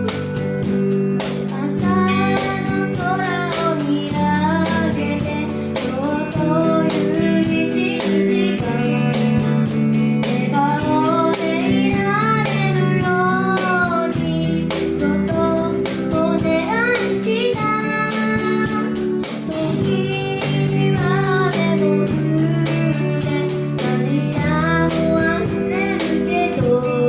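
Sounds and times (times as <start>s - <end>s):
live band guitar and drums: 0.0s - 27.0s
child singing: 1.4s - 27.0s.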